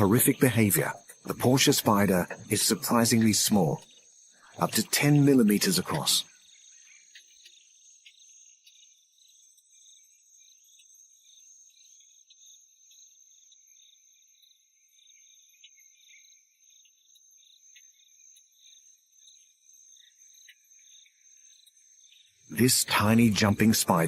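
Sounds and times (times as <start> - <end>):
crickets trilling and chirping: 0.0 - 24.0.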